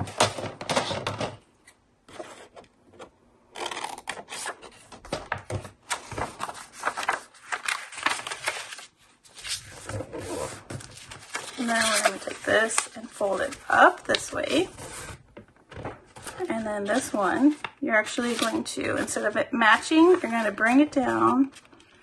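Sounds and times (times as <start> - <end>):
paper rustling: 3.6 - 15.2, 15.8 - 22.0.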